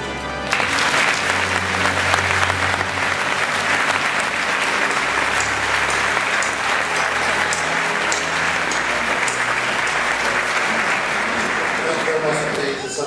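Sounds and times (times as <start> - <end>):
audience applauding: 0.4 - 13.0.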